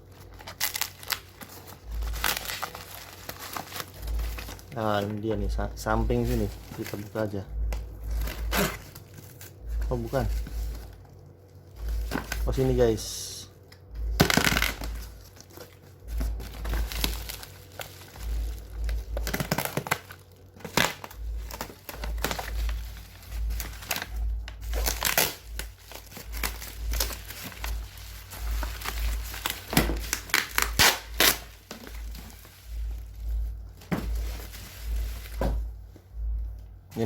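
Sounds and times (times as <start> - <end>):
plastic wrapping crinkling and tearing: 0.0 - 37.0.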